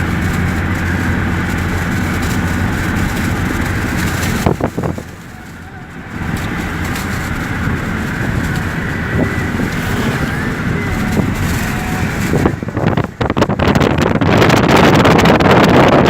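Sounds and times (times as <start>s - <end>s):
vehicle road noise: 0.0s - 16.0s
wind buffeting microphone: 0.0s - 16.0s.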